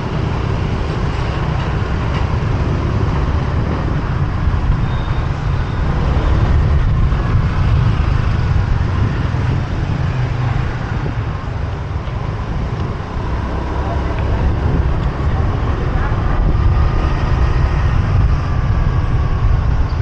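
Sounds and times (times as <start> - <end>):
motorbike rumble: 0.0 - 20.0
surrounding traffic: 0.0 - 20.0.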